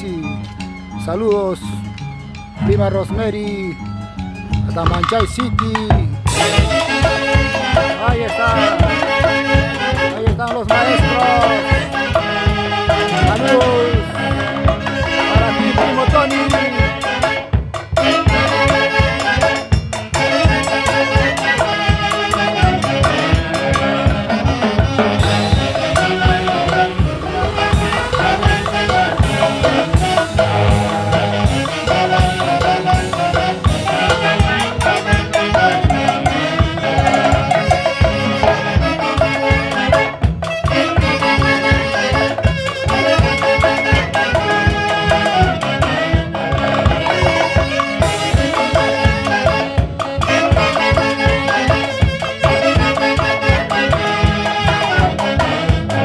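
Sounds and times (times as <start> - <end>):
steady drum beat: 4.6 - 56.0
orchestra playing dance tune: 6.2 - 56.0.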